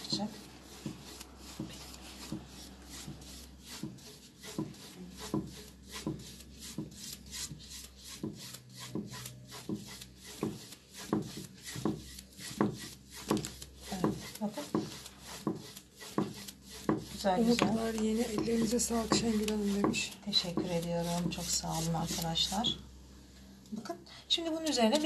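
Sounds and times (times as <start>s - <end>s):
stiff paintbrush scrubbing: 0.0s - 22.8s.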